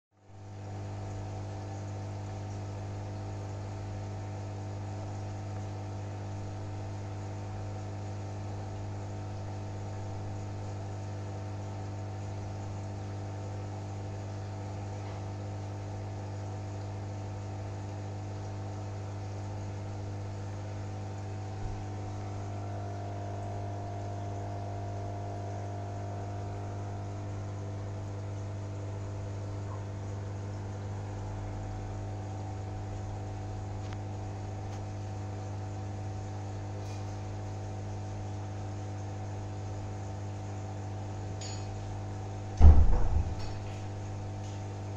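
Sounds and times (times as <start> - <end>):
aquarium filter pump humming: 0.2 - 44.9.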